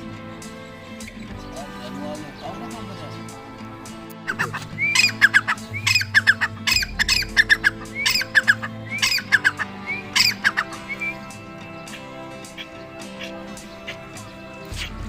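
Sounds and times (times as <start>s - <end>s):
background music: 0.0s - 15.0s
partridge harsh call: 0.0s - 15.0s.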